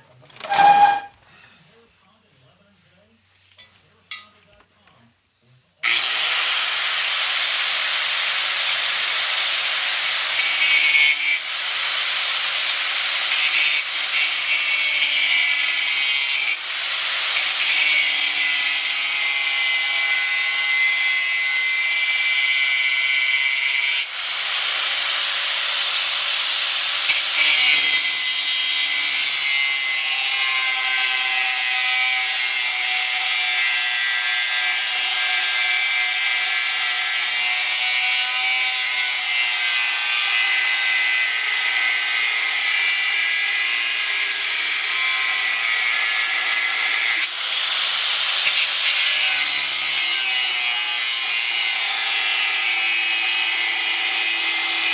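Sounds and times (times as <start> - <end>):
power tool working steel: 0.4 - 1.1, 5.8 - 54.9.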